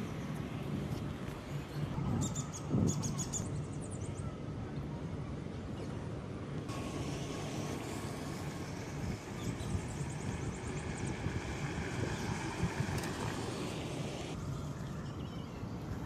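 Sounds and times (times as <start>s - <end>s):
low outdoor rumble: 0.1s - 15.9s.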